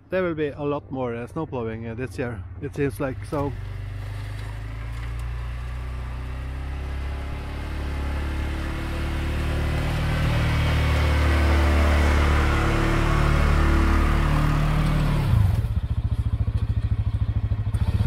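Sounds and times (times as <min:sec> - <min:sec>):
atv engine revving: 0:02.8 - 0:18.0.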